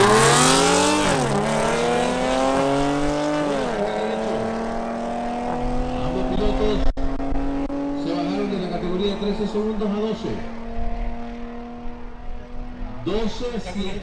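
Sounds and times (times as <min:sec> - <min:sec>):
car engines accelerating: 0:00.0 - 0:14.0.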